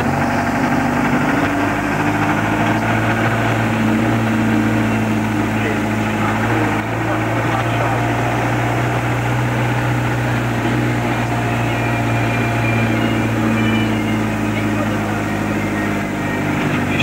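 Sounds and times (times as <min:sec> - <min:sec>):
faint voices: 0:00.0 - 0:17.0
vehicle engine droning: 0:00.0 - 0:17.0.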